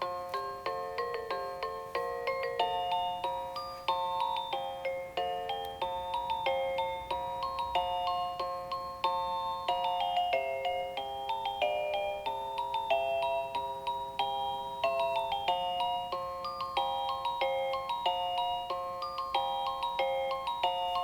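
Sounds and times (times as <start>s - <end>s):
alarm clock melody: 0.0s - 21.0s.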